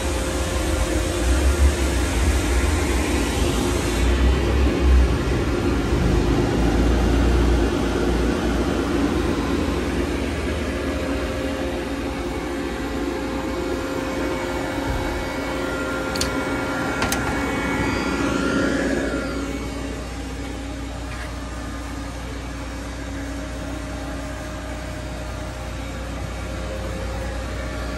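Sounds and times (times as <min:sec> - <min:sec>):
machine hum and fan whir: 0:00.0 - 0:27.9.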